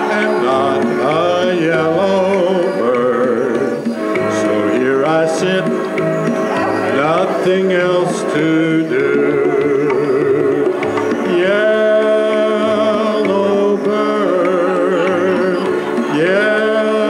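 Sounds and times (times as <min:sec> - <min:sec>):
electronic keyboard playing: 0:00.0 - 0:17.0.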